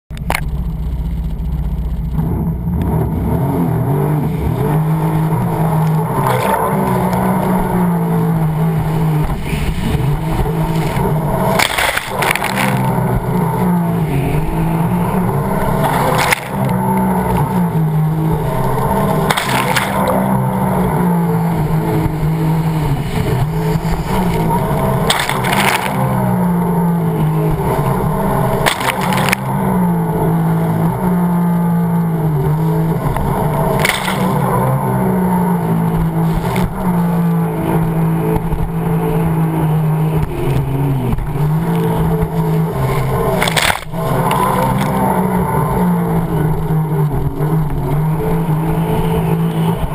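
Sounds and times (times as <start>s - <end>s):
watercraft engine revving: 0.0s - 49.9s
water splashing against hull: 0.1s - 49.9s.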